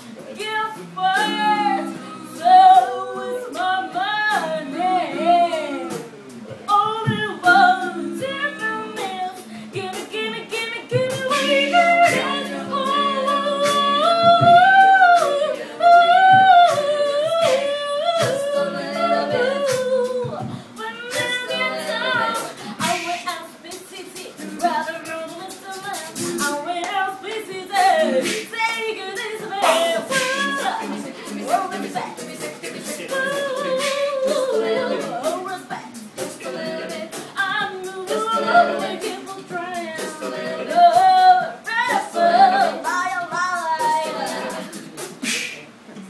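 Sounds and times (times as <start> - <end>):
a cappella group singing: 0.0 - 46.0.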